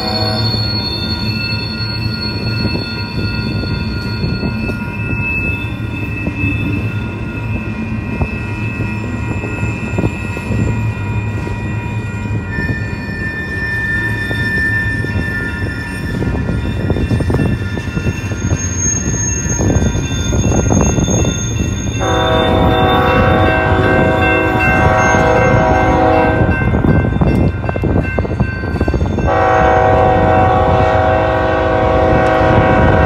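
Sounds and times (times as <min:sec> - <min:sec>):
high-pitched wheel squeal: 0:00.0 - 0:27.4
low rumble of train on rails: 0:00.0 - 0:33.0.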